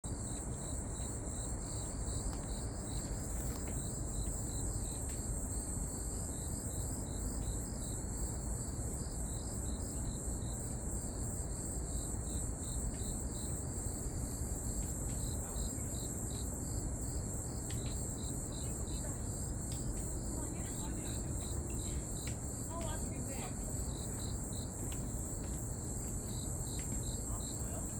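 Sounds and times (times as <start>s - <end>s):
crickets trilling: 0.0s - 27.9s.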